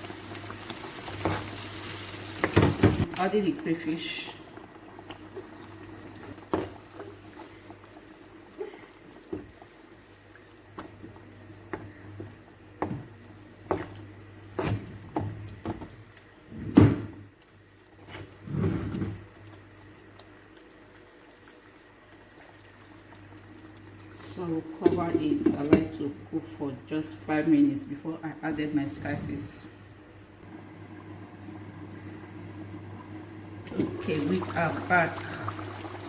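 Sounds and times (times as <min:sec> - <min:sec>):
oil frying: 0:00.0 - 0:16.4, 0:17.4 - 0:26.6, 0:30.4 - 0:36.0.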